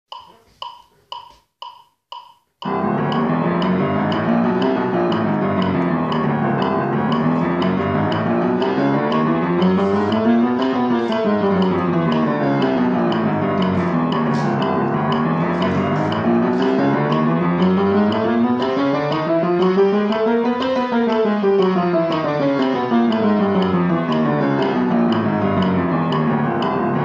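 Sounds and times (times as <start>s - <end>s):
electronic metronome beeping: 0.1s - 27.0s.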